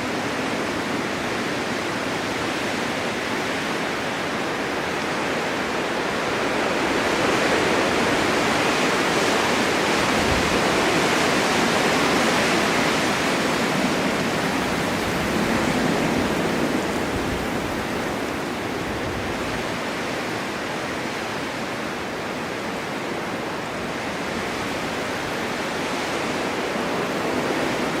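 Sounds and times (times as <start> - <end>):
snowstorm wind rushing: 0.0 - 28.0.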